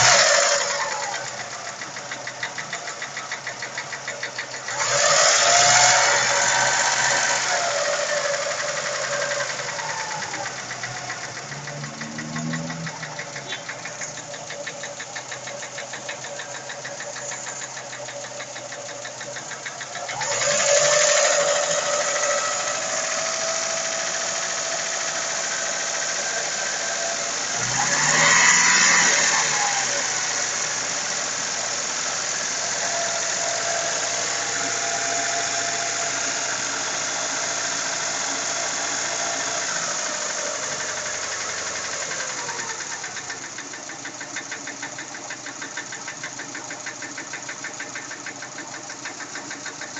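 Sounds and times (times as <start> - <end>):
engine revving: 0.0 - 49.9
fast knocking inside engine: 0.0 - 49.9.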